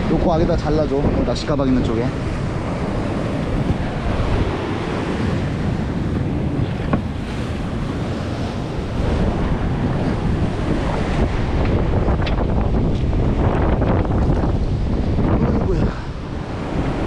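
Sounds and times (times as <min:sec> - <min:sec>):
waves breaking on rocks: 0:00.0 - 0:17.0
wind buffeting microphone: 0:00.0 - 0:17.0.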